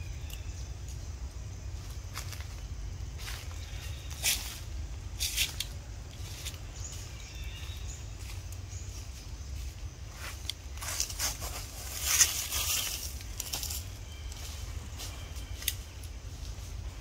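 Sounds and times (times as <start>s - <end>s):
dry leaves crunching: 1.8s - 17.0s.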